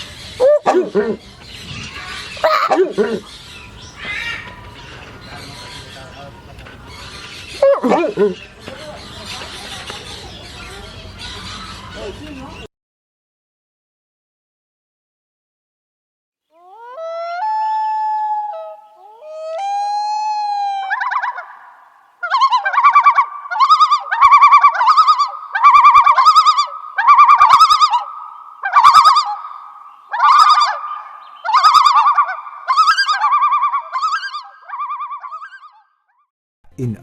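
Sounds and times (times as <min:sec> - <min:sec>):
loud bird calls: 0:00.0 - 0:12.7, 0:16.6 - 0:36.0.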